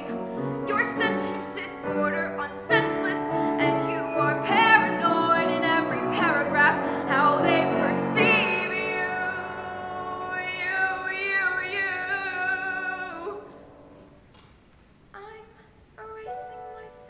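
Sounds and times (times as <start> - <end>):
woman singing a ballad: 0.0 - 13.6, 15.2 - 17.0
piano: 0.0 - 14.3, 16.0 - 17.0.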